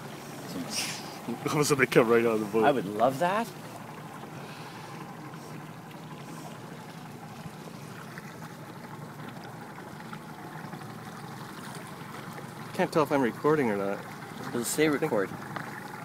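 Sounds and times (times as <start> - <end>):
low steady hum: 0.0 - 16.0
water lapping against hull: 0.0 - 16.0.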